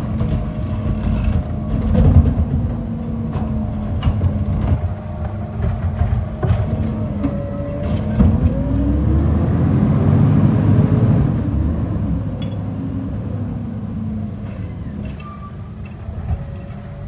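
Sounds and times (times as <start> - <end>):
garbage truck engine running: 0.0 - 17.0.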